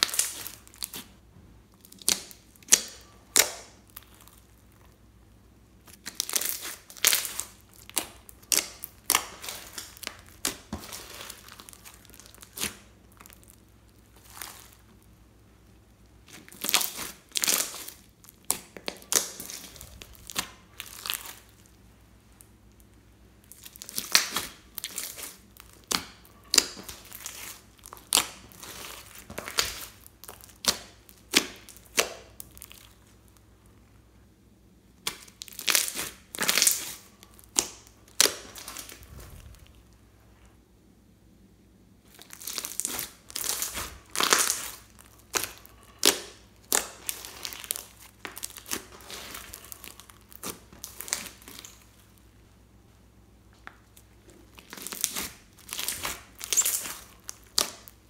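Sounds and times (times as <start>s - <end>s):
slime crackling and popping: 0.0s - 5.1s, 5.8s - 15.1s, 15.9s - 33.4s, 35.0s - 40.0s, 42.1s - 52.2s, 53.8s - 58.0s.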